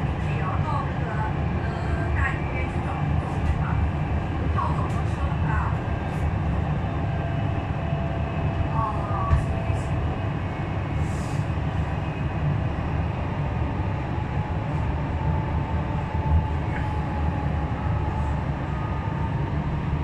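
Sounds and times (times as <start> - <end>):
train rumble with whine: 0.0 - 20.0.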